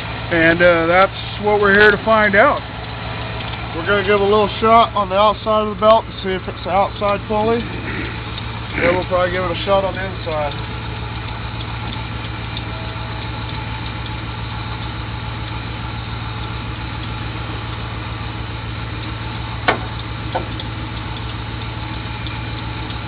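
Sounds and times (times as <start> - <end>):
van engine idling: 0.0 - 23.0.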